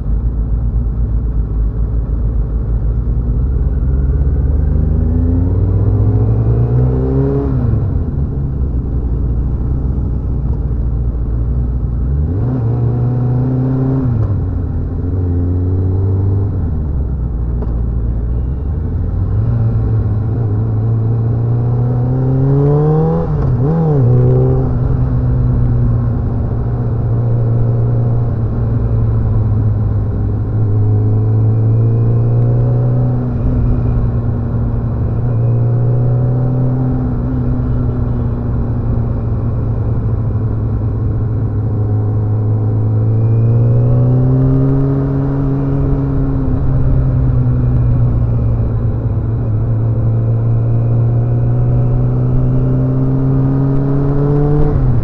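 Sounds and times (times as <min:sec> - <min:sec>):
motorcycle engine accelerating: 0:03.2 - 0:55.0.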